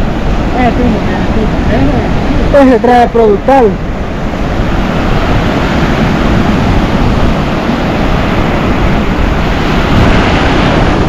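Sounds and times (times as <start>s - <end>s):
ocean surf breaking: 0.0s - 11.0s
wind rushing over microphone: 0.0s - 11.0s.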